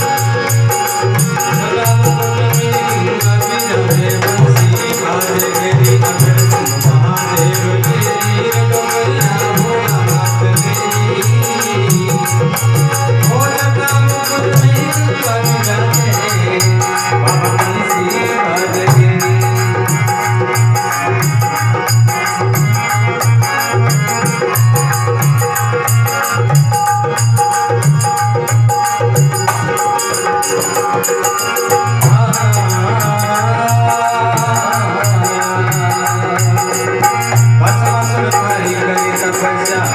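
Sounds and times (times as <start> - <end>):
jingling rattling percussion: 0.0 - 39.9.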